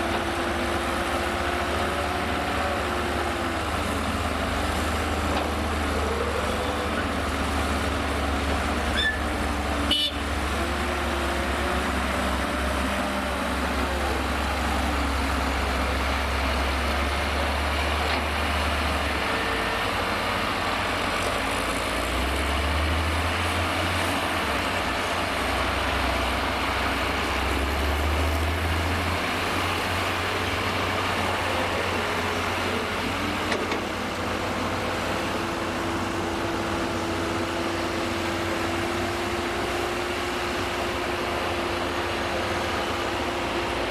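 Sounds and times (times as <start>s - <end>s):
heavy diesel engines revving: 0.0s - 43.9s.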